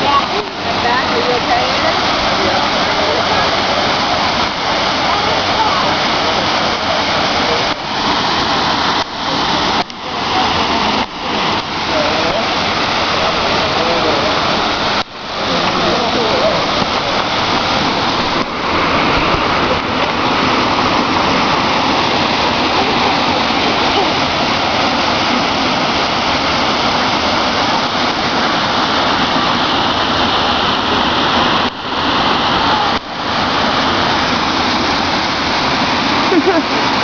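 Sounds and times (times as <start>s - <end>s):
waterfall roaring: 0.0s - 37.0s.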